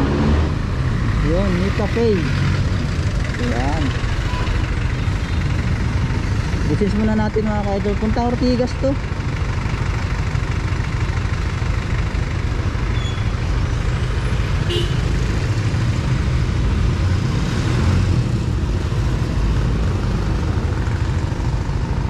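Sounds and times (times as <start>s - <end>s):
motorcycle riding in traffic: 0.0s - 22.0s.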